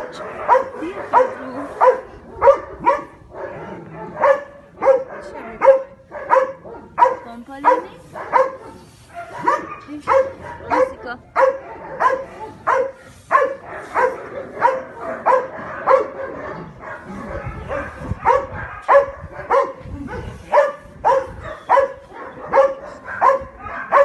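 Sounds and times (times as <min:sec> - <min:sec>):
dog barking: 0:00.0 - 0:24.0.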